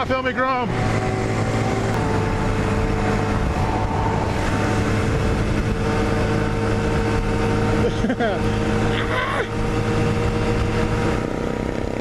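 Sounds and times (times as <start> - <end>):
motorcycle engine at high revs: 0.0 - 12.0
wind noise: 0.7 - 12.0.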